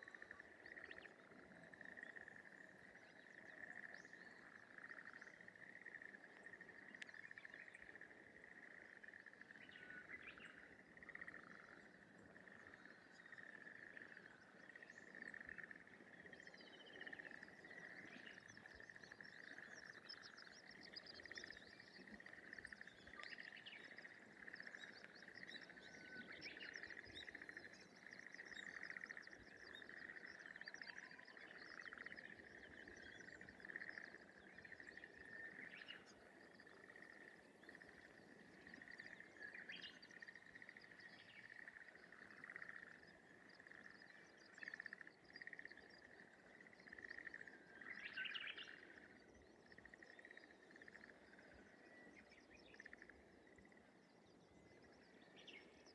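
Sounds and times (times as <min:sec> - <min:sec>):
frogs calling: 0:00.0 - 0:54.0.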